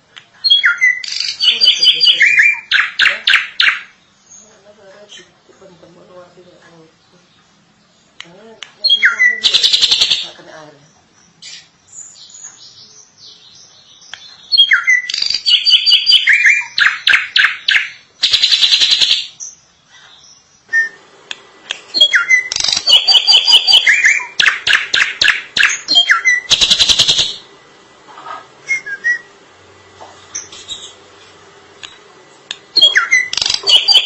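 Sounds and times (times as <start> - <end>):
bird singing: 0.4 - 21.0, 21.9 - 27.5, 28.6 - 29.3, 32.8 - 34.0.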